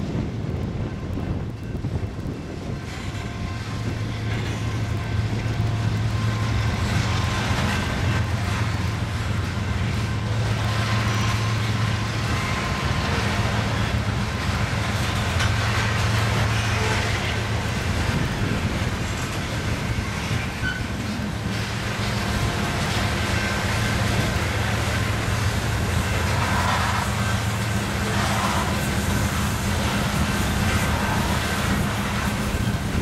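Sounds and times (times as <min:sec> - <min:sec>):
freight train rumbling on rails: 0:00.0 - 0:33.0.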